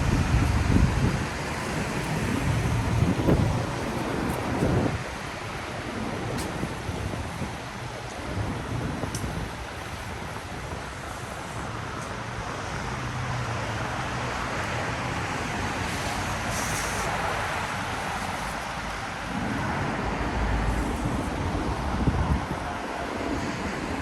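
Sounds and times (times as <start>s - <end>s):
traffic hissing on wet street: 0.0s - 24.0s.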